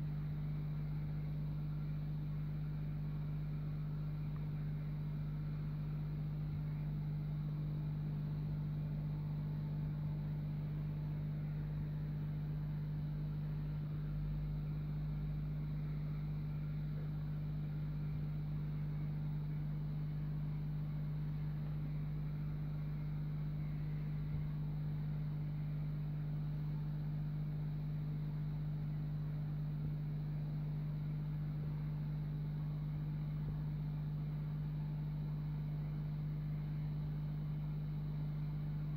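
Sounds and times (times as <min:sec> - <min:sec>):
aquarium pump humming: 0:00.0 - 0:38.9.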